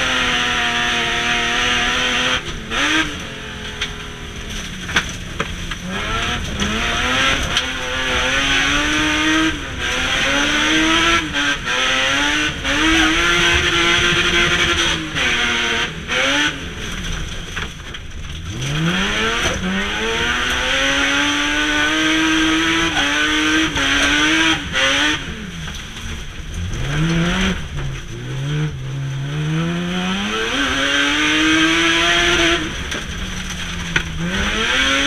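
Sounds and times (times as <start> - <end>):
car engine revving hard: 0.0 - 35.0.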